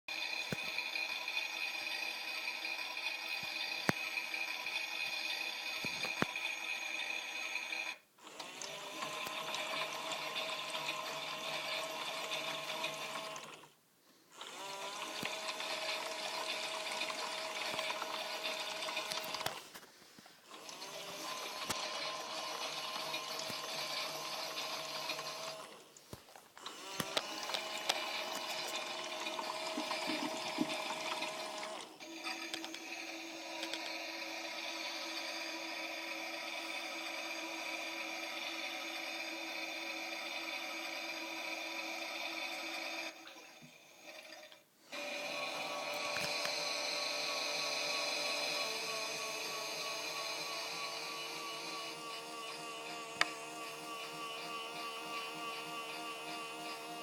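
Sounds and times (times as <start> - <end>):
toy washing machine motor whirring: 0.1 - 57.0.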